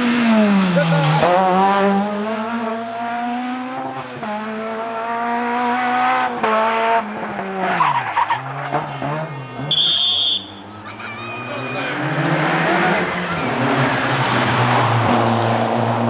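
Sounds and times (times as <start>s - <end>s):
rally car engine accelerating: 0.0s - 9.9s, 10.5s - 16.0s
second engine: 0.0s - 16.0s.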